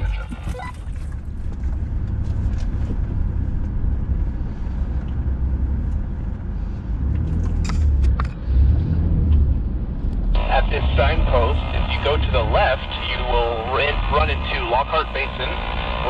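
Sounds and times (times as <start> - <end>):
off-road vehicle rumbling: 0.0 - 16.0.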